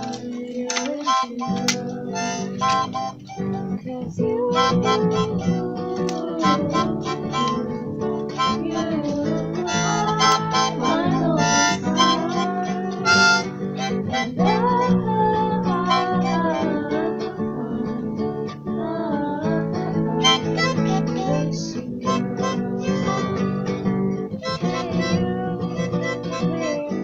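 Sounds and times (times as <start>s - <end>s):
harmonica playing: 0.0s - 3.8s, 4.4s - 17.3s, 20.2s - 27.0s
acoustic guitar strumming: 0.0s - 27.0s.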